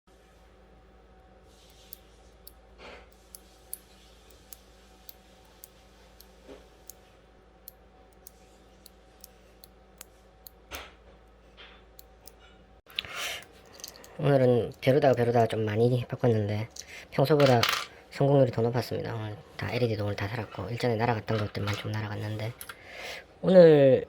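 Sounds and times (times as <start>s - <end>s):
faint steady hum: 0.1s - 24.0s.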